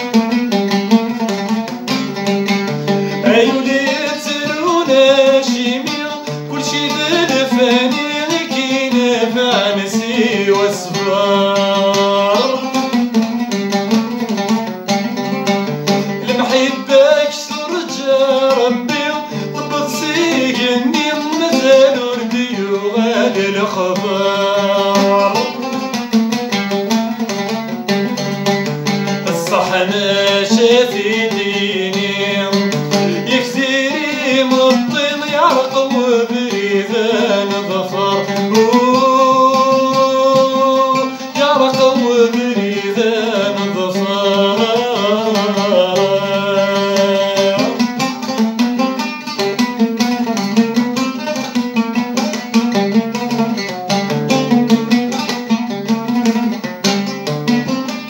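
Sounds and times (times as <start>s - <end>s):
oud playing: 0.0s - 58.0s
man singing: 1.1s - 14.6s, 16.0s - 26.5s, 29.0s - 53.7s.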